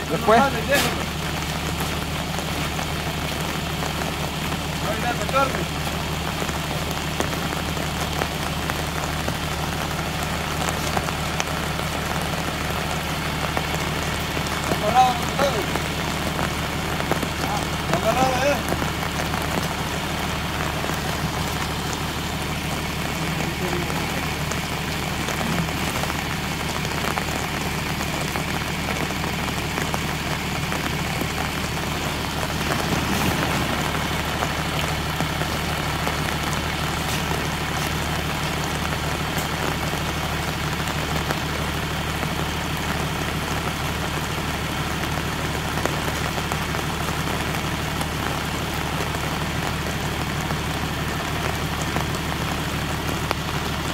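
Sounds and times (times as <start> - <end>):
rain falling: 0.0 - 53.9
tractor diesel engine running: 0.0 - 53.9.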